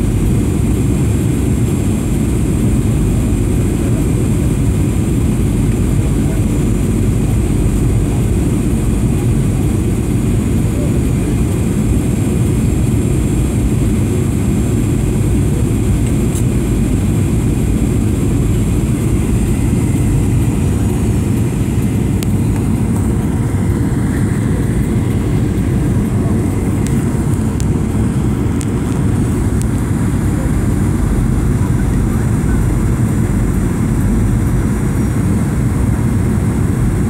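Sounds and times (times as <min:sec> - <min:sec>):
aircraft cabin engine rumble: 0:00.0 - 0:37.0.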